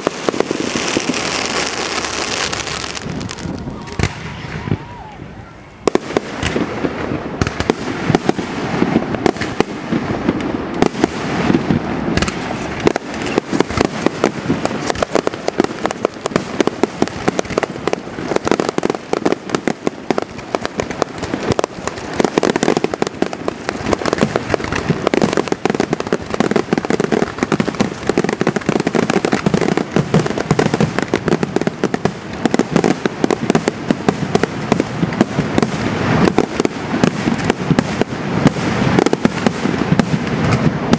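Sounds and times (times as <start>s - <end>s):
fireworks bursting and crackling: 0.0s - 40.9s.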